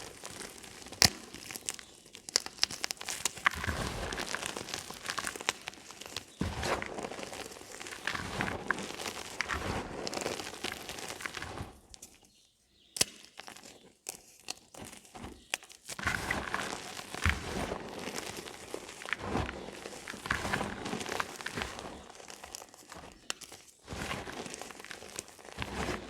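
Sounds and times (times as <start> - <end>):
chalk crunching and crackling: 0.0 - 26.0.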